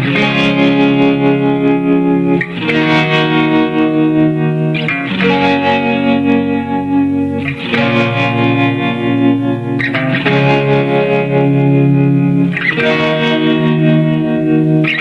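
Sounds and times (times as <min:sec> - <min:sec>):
music with sustained chords: 0:00.0 - 0:15.0.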